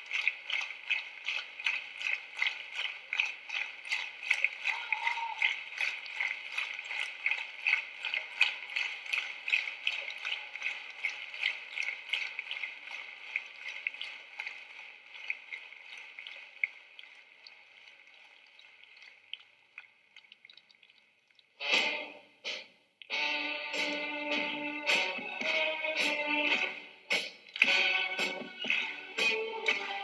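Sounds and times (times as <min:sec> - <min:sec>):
audience clapping in unison: 0:00.0 - 0:19.2, 0:23.7 - 0:30.0.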